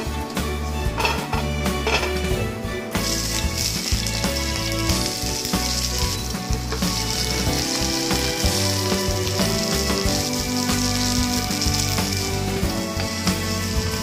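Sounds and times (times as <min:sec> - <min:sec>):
background music: 0:00.0 - 0:14.0
food sizzling in oil: 0:00.0 - 0:14.0.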